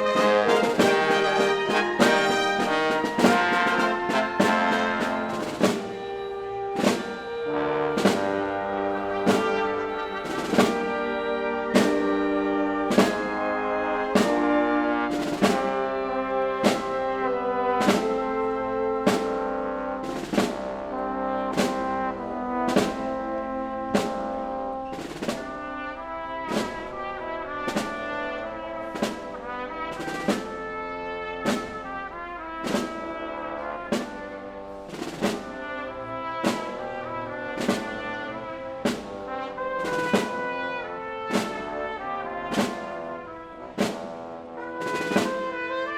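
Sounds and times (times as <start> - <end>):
orchestra playing solemn march: 0.0 - 45.9
steady percussion strokes: 0.0 - 45.9
trombones and trumpets: 0.0 - 45.9.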